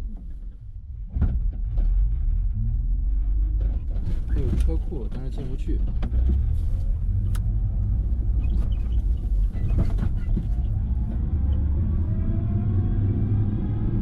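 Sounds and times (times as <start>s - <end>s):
road and wind rumble: 0.0s - 14.0s.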